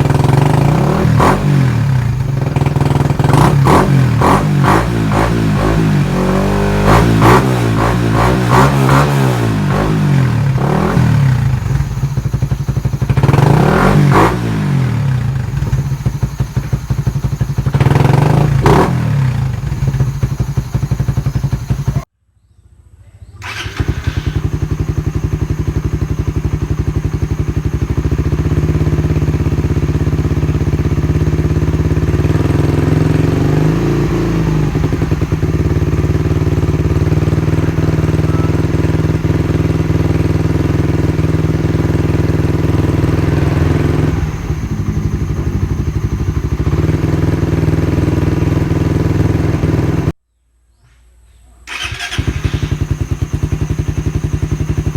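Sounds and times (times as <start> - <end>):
engine revving: 0.0 - 22.1, 23.4 - 50.1, 51.7 - 54.9
motorcycle engine idling: 0.0 - 22.1, 23.4 - 50.1, 51.7 - 54.9.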